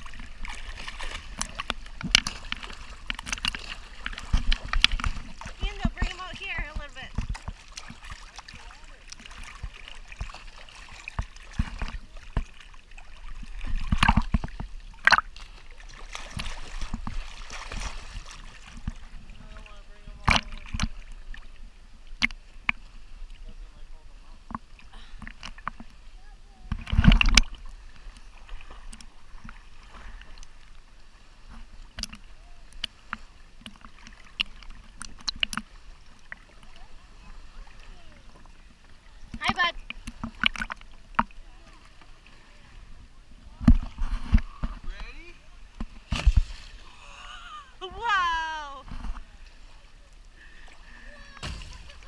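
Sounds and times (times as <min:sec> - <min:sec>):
water lapping around a kayak: 0:00.0 - 0:52.0
water splashes: 0:00.0 - 0:52.0.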